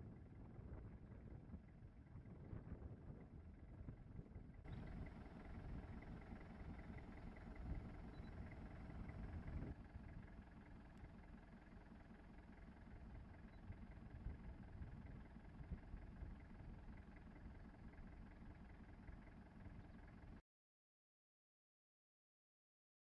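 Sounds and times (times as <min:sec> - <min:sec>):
faint idling engine rumble: 0:00.0 - 0:20.4.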